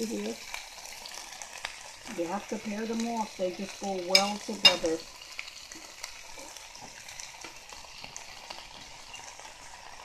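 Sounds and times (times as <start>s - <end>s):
chicken frying in oil: 0.0s - 10.0s.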